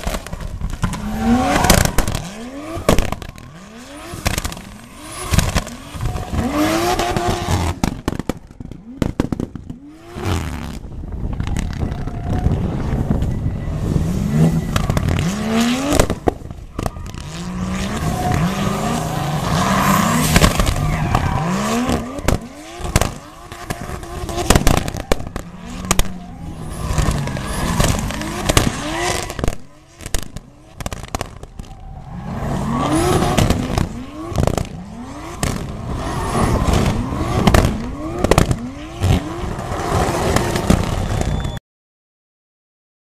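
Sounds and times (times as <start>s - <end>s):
car engine revving: 0.0s - 41.2s
exhaust pops and crackles: 0.0s - 41.6s.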